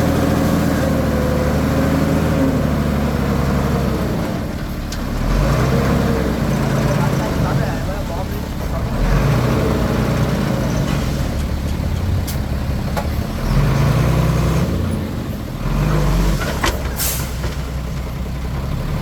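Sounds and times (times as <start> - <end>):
bulldozer diesel engine under load: 0.0 - 19.0.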